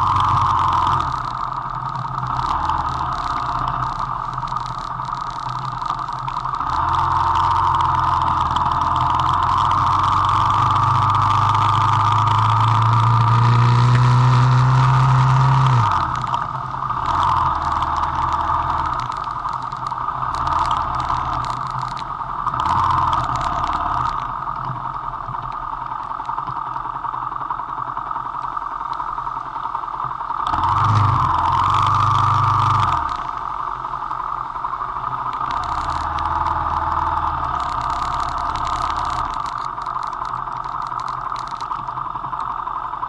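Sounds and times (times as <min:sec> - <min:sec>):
motorcycle engine revving: 0:00.0 - 0:25.2, 0:29.0 - 0:43.0.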